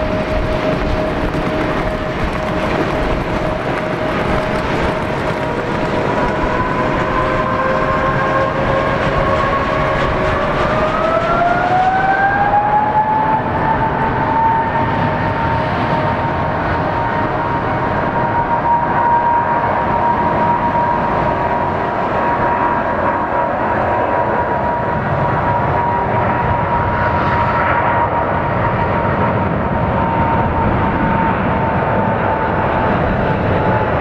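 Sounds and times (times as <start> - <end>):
jet engines spooling up: 0.0 - 34.0.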